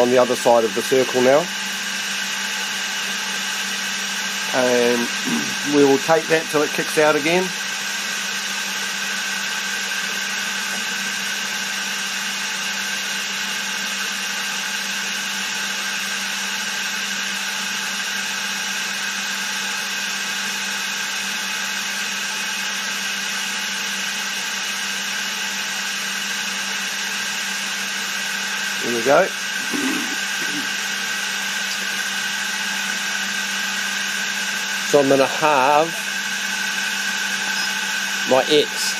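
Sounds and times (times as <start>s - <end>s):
milling machine spindle whining: 0.0s - 38.9s.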